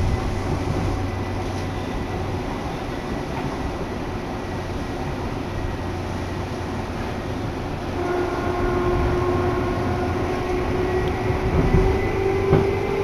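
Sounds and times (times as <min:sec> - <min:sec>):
train rumbling from inside: 0:00.0 - 0:13.0.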